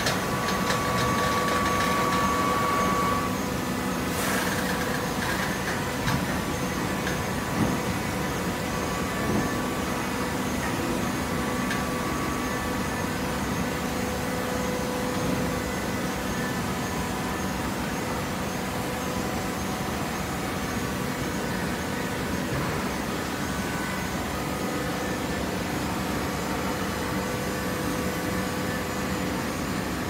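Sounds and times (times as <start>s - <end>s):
hydraulic baler humming: 0.0s - 30.0s.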